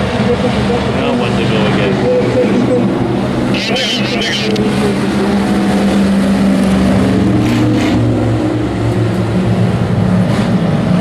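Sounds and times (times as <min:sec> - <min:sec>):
race truck engines droning: 0:00.0 - 0:11.0.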